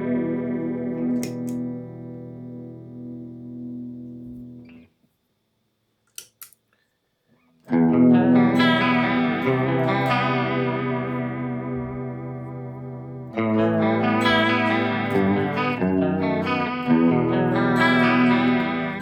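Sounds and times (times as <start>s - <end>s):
electric guitar chords: 0.0s - 4.8s, 7.7s - 19.0s.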